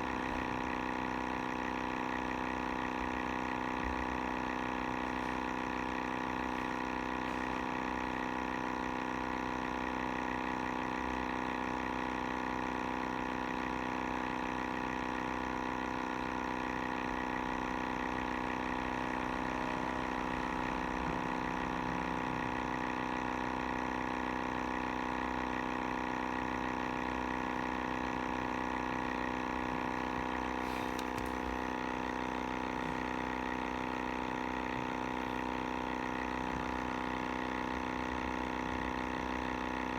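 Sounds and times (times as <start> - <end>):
pump motor humming and whining: 0.0 - 39.9.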